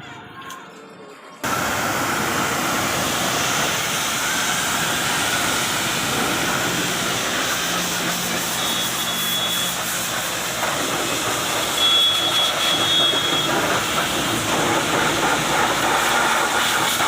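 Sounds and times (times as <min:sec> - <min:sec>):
high-pressure water jet spraying: 0:01.4 - 0:17.0.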